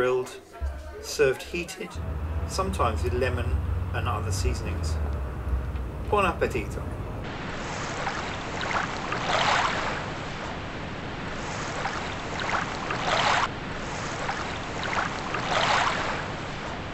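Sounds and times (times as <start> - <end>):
wind: 0.0 - 16.9
small waves washing ashore: 1.9 - 16.9.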